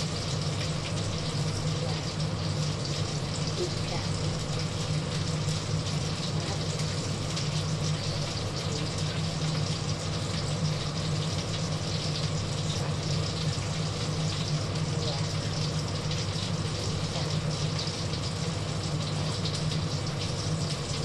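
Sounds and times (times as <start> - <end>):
chicken sizzling in hot oil: 0.0 - 21.0
range hood fan humming: 0.0 - 21.0.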